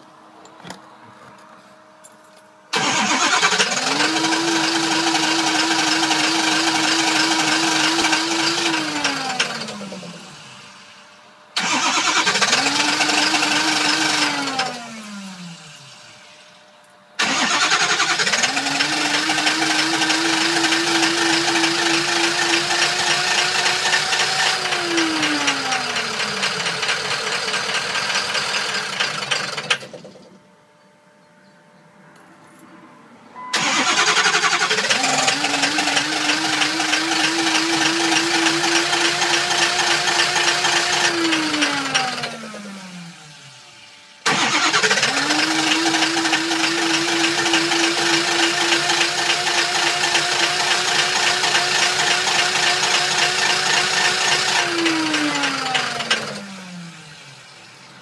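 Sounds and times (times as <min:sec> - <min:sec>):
diesel engine cranking and stalling: 0:02.7 - 0:10.8, 0:11.6 - 0:16.1, 0:17.2 - 0:30.4, 0:33.5 - 0:43.6, 0:44.2 - 0:58.0.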